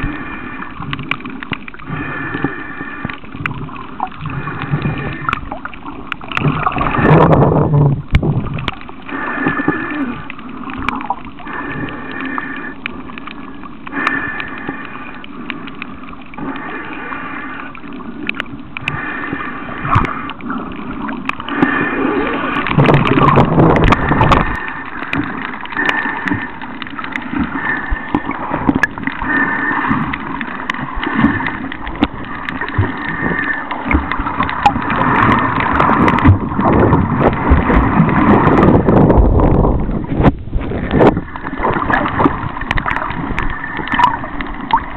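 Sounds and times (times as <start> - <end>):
water sloshing and gurgling: 0.0 - 44.9
water splashes: 0.0 - 44.9.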